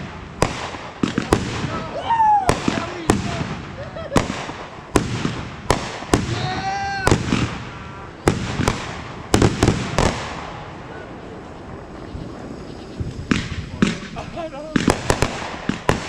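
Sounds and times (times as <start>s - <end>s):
fireworks bangs echoing: 0.0s - 16.0s.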